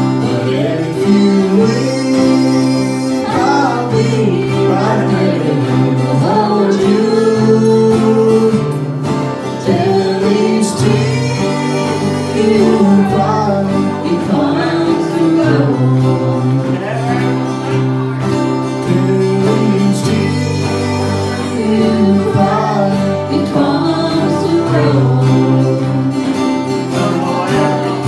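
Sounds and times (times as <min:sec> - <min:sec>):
mandolin: 0:00.0 - 0:28.0
strummed acoustic guitars: 0:00.0 - 0:28.0
woman singing: 0:00.2 - 0:08.8, 0:09.6 - 0:16.6, 0:18.9 - 0:26.2.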